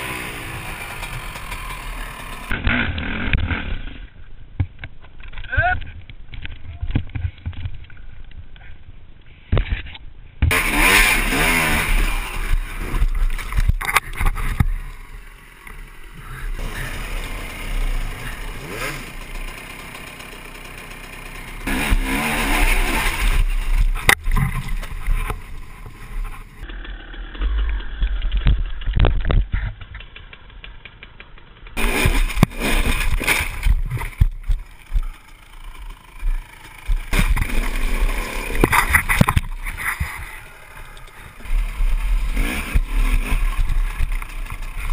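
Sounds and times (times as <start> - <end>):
dirt bike engines revving: 0.0 - 3.9, 10.5 - 28.9, 29.8 - 44.9.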